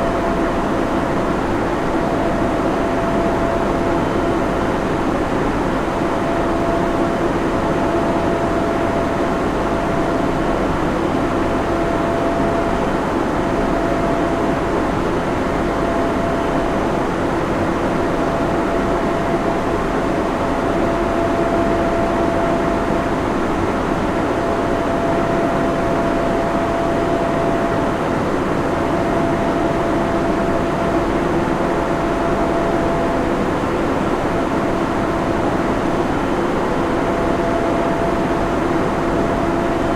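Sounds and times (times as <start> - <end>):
constant hum tones: 0.0 - 39.9
cooling fans roaring: 0.0 - 39.9.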